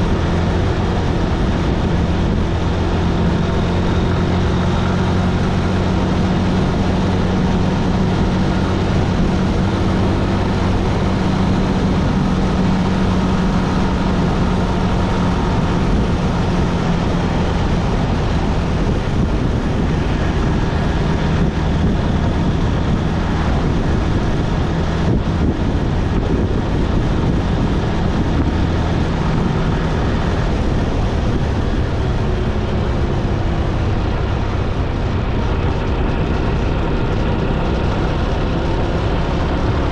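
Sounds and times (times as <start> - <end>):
motorcycle engine humming: 0.0 - 39.9
wind and road noise: 0.0 - 39.9.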